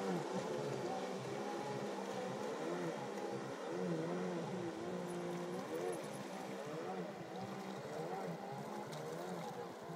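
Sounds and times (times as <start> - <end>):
jet ski engine running: 0.0 - 9.9.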